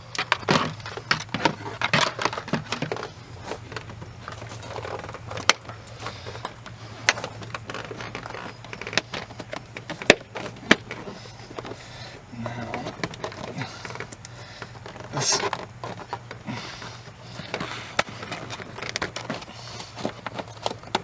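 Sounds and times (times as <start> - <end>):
plastic panel rustling and scraping: 0.0 - 21.0.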